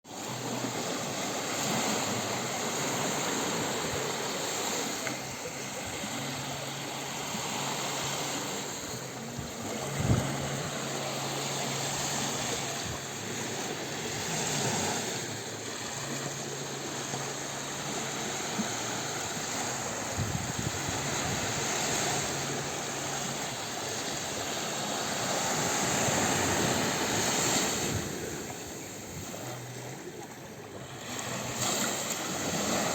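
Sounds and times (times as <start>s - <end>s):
sea waves washing onto beach: 0.1s - 32.9s.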